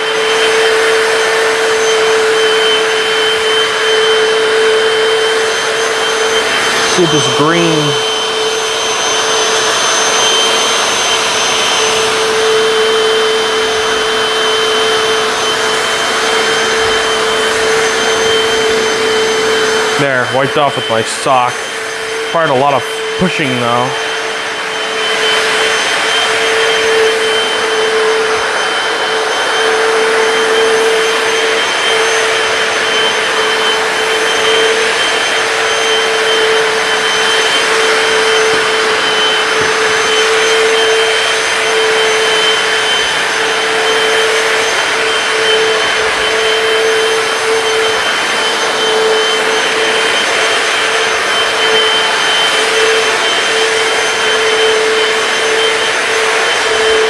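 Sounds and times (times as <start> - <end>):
floor cleaner suction and hum: 0.0 - 57.0
thin high whine: 0.0 - 57.0.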